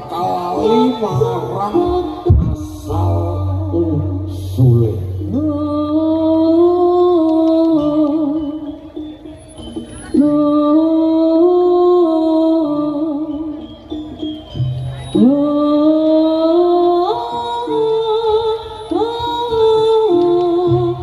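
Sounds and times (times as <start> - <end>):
low percussion: 0.0 - 21.0.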